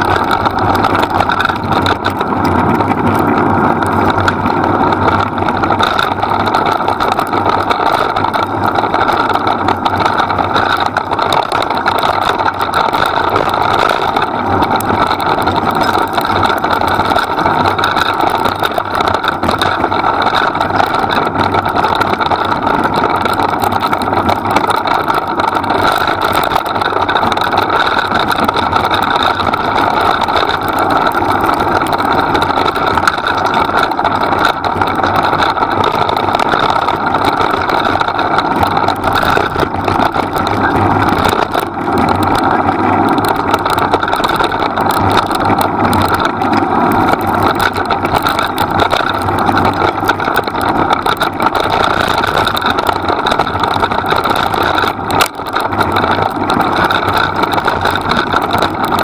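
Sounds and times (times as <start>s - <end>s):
rig rumbling over dirt trail: 0.0s - 59.0s.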